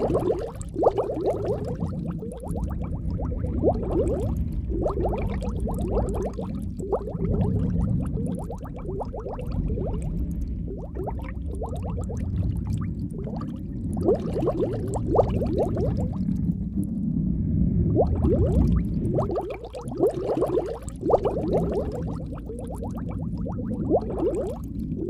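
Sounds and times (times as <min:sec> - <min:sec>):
underwater bubbles blipping: 0:00.0 - 0:17.0, 0:17.8 - 0:25.0
low rumble of water: 0:00.0 - 0:25.0.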